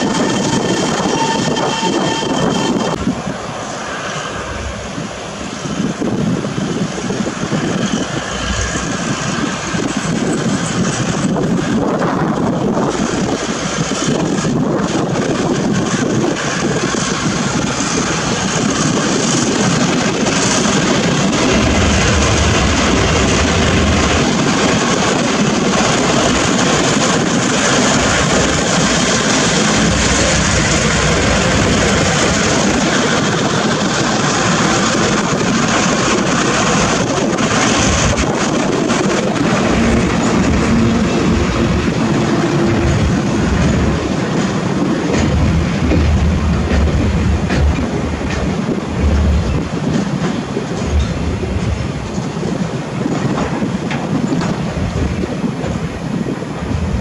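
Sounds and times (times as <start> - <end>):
diesel locomotive engine: 0.0 - 57.0
train wagons rolling on rails: 0.0 - 57.0
low rumbling: 2.9 - 53.8, 54.4 - 57.0.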